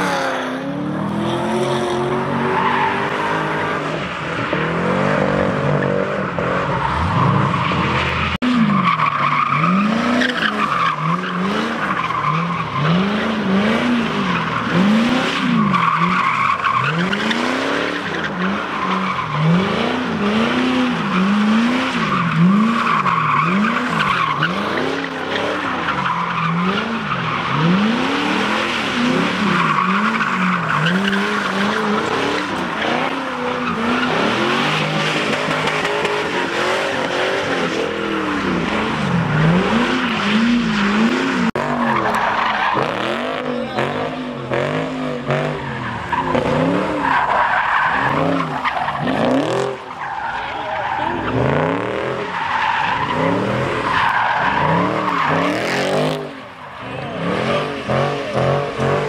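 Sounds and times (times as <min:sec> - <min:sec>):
car engines revving: 0:00.0 - 0:59.0
tyres skidding: 0:00.0 - 0:59.0.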